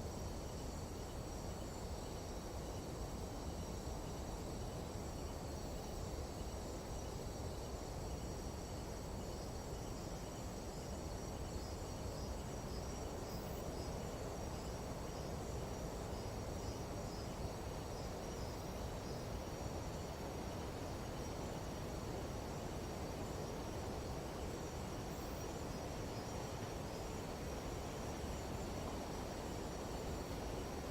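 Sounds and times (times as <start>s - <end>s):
night insects trilling: 0.0s - 30.9s.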